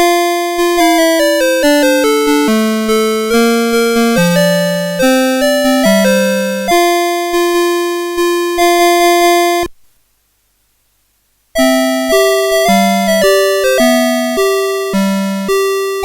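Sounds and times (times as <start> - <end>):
alarm clock beeping melody: 0.0 - 9.7, 11.6 - 16.0.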